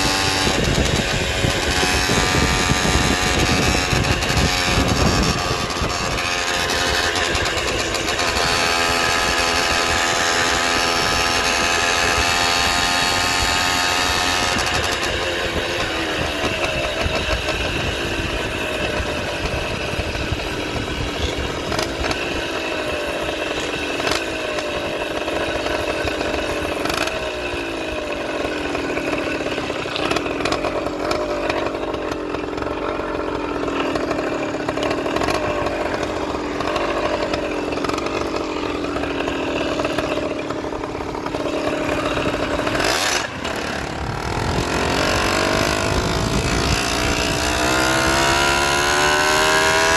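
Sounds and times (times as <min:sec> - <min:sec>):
small bicycle engine running: 0:00.0 - 0:49.9.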